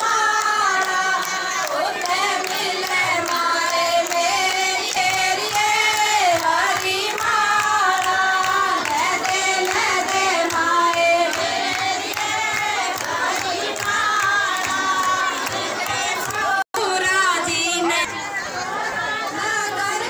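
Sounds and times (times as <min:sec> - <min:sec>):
hand clapping in time: 0:00.0 - 0:16.6
women singing through microphones: 0:00.0 - 0:20.0.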